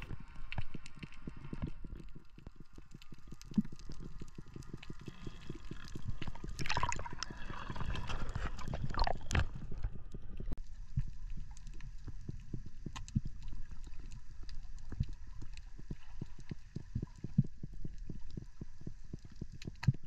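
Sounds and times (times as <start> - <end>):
low water rumble: 0.0 - 20.0
underwater clicks crackling: 0.0 - 20.0
water bubbling and gurgling: 0.0 - 20.0.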